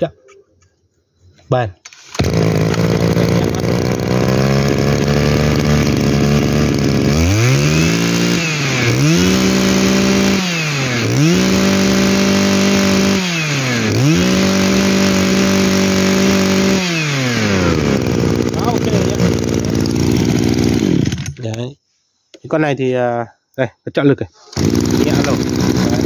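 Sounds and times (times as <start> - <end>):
brushcutter engine idling and revving: 1.9 - 21.5, 24.5 - 26.0.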